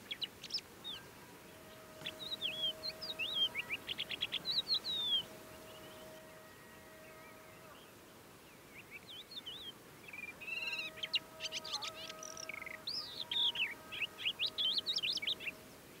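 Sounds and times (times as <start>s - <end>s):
distant call to prayer: 0.9s - 8.1s, 10.3s - 15.9s.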